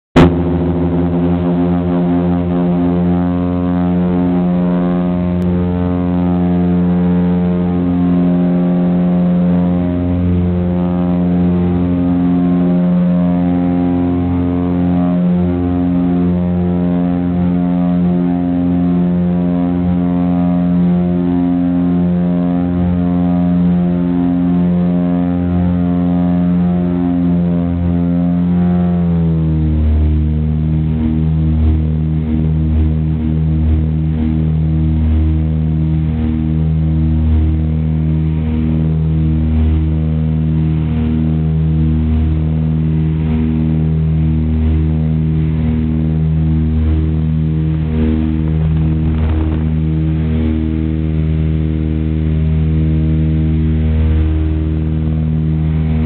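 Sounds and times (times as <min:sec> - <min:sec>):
propeller aircraft engine drone: 0:00.1 - 0:56.0.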